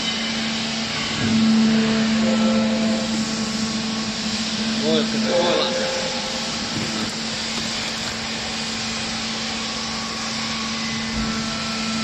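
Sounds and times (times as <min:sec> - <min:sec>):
motor and pump humming: 0:00.0 - 0:12.0.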